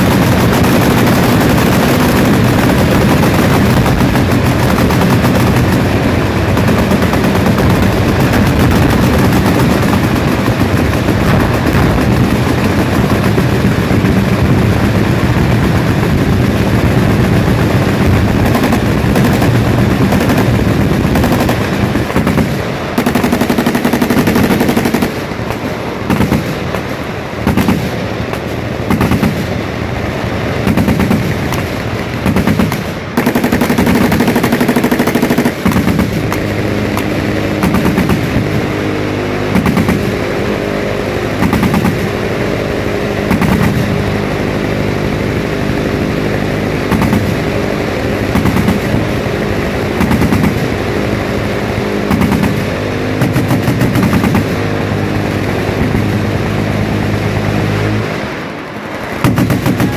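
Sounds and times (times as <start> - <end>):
machine gun fire: 0.0 - 59.9.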